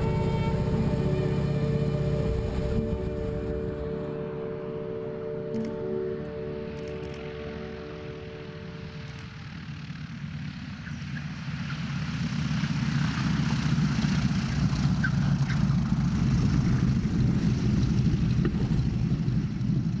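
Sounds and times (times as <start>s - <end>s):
propeller aircraft engine rumble: 0.0s - 20.0s.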